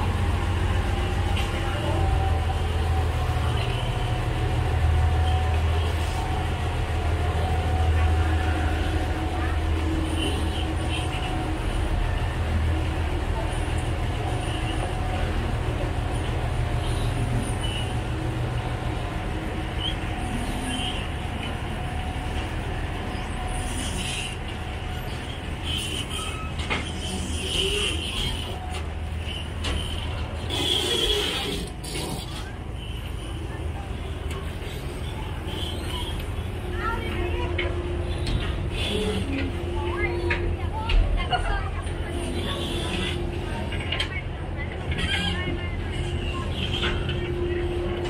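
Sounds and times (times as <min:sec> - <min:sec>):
constant hum: 0:00.0 - 0:48.0
ferry engine rumbling: 0:00.0 - 0:48.0.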